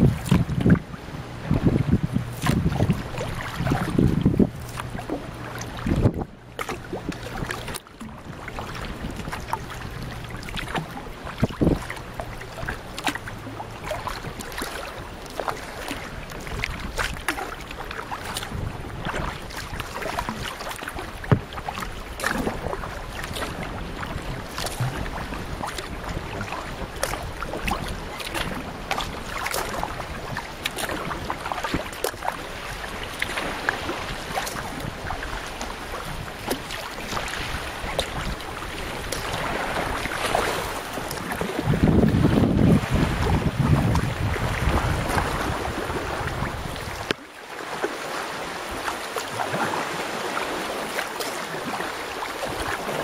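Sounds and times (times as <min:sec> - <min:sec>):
wind buffeting the microphone: 0:00.0 - 0:47.2
water splashing around a canoe: 0:00.0 - 0:53.0.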